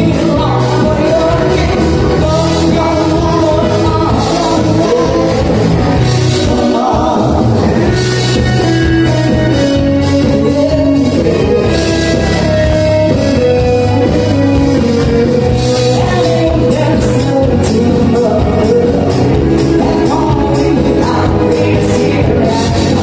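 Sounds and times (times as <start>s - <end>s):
drums keeping a beat: 0.0s - 23.0s
live band with singer: 0.0s - 23.0s.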